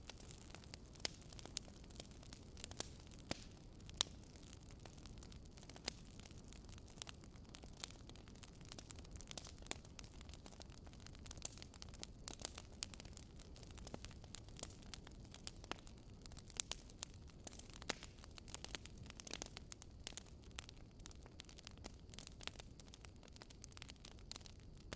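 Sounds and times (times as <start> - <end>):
low rumble of burning: 0.0 - 24.9
wood fire crackling: 0.0 - 24.9.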